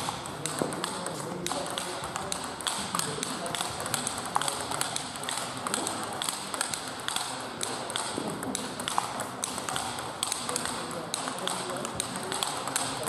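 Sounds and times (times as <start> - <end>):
table tennis ball clicks: 0.0 - 13.0.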